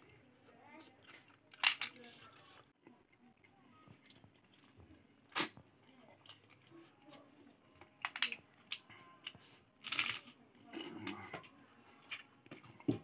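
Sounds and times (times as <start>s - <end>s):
crisp cabbage crunch: 0.7s - 12.8s.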